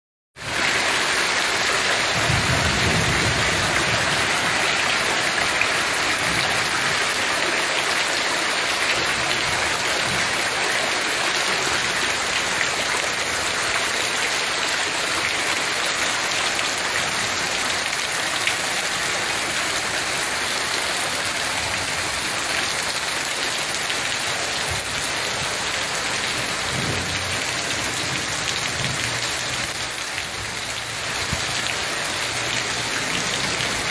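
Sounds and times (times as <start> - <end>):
heavy rain pouring: 0.4 - 33.9.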